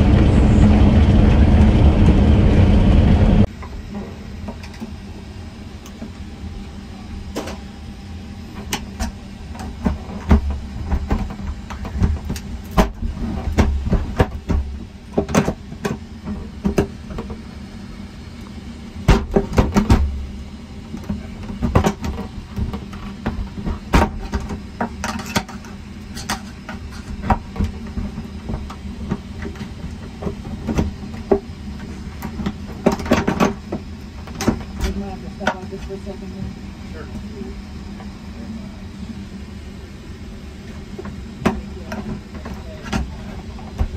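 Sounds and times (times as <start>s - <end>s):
aircraft cabin hum: 0.0s - 43.9s.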